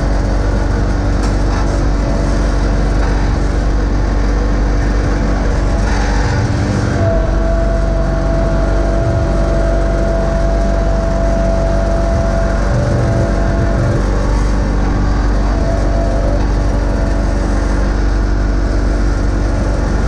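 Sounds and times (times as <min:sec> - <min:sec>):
garden tractor engine running: 0:00.0 - 0:20.0
steady whine: 0:00.0 - 0:20.0.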